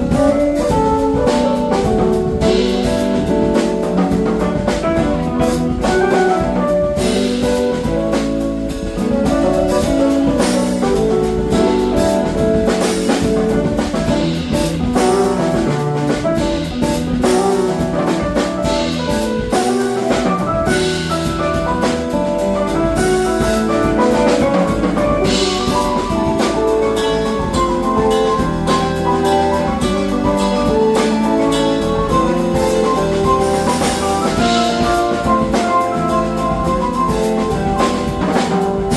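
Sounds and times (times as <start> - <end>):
drum kit steady beat: 0.0 - 38.9.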